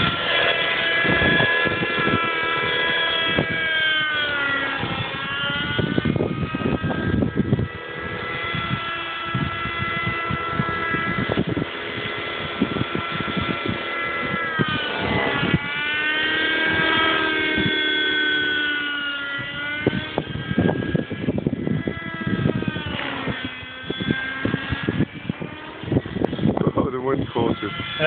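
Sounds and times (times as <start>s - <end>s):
model helicopter engine and rotor: 0.0s - 28.0s
wind buffeting microphone: 0.0s - 28.0s.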